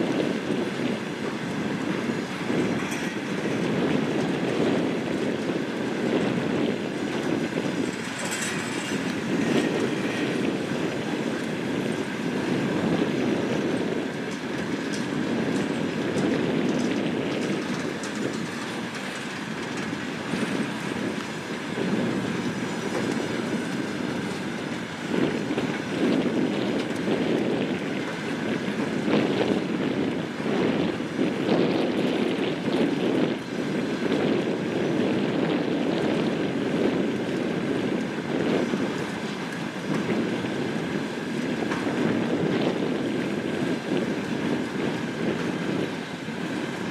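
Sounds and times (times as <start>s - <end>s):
diesel train rumbling: 0.0s - 46.9s
wheels clattering over rail joints: 0.0s - 46.9s.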